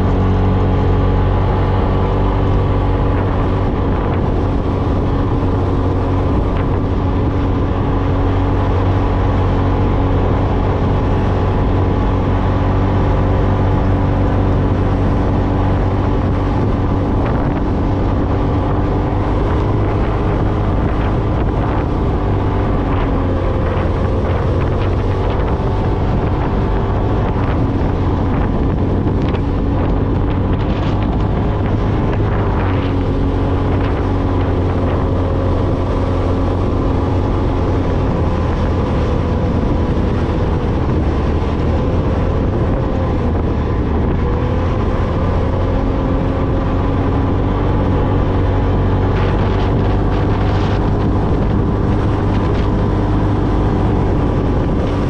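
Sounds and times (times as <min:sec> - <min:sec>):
off-road vehicle engine running: 0:00.0 - 0:55.0
wind noise on microphone: 0:00.0 - 0:55.0.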